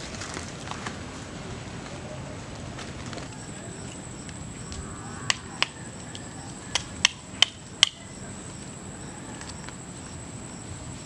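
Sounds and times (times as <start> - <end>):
high insect whine: 0.0 - 11.0.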